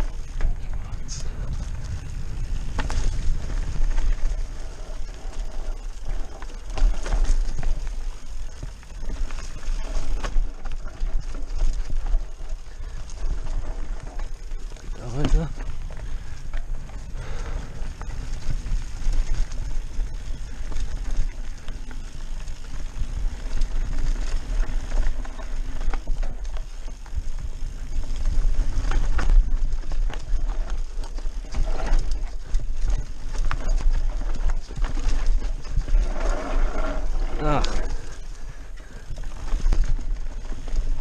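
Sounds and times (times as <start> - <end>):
bike clicking and rattling: 0.0 - 41.0
bike tyres rolling over dirt: 0.0 - 41.0
wind rumbling on microphone: 0.0 - 41.0.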